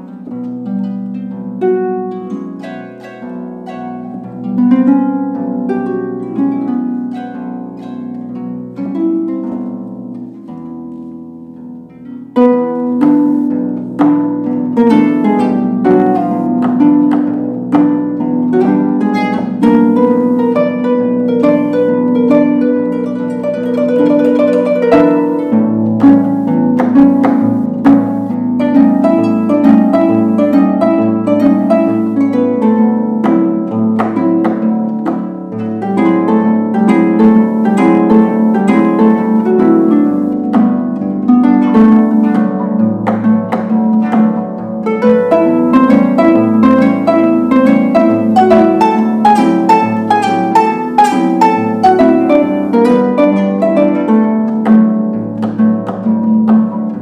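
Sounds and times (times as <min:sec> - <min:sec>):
harp playing: 0:00.0 - 0:57.0.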